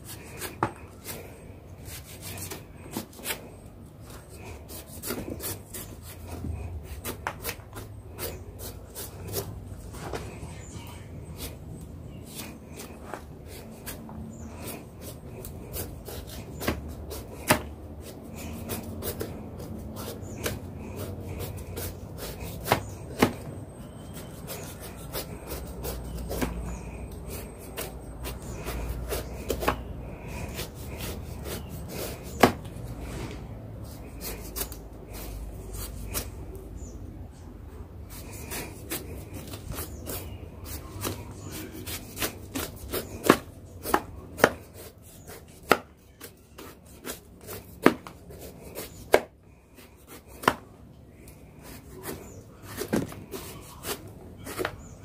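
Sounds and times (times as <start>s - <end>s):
knife scraping fruit rind: 0.0s - 37.0s, 38.0s - 55.0s.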